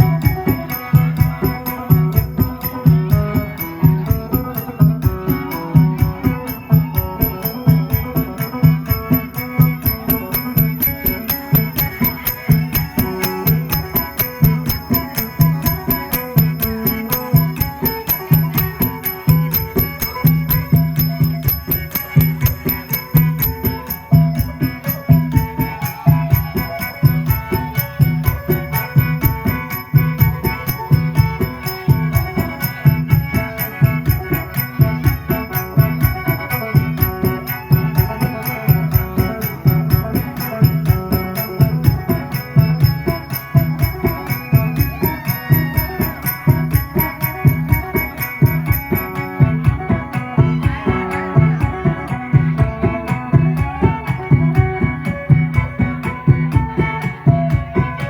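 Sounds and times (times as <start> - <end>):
plucked lute folk tune: 0.0 - 58.0.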